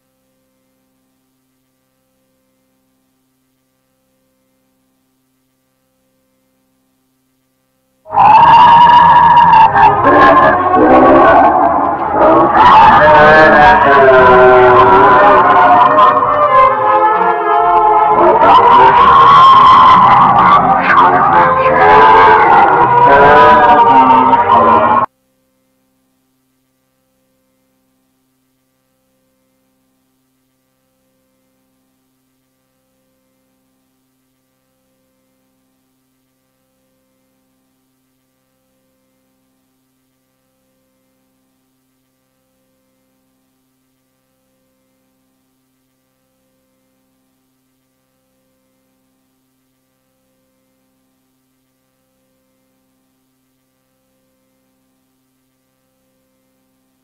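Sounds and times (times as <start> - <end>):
faint multi-tone hum: 0.0 - 57.0.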